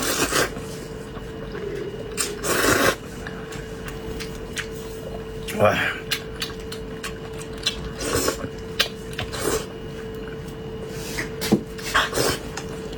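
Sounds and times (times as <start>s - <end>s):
faint hum: 0.0s - 12.9s
wet chewing or slurping: 0.0s - 12.9s.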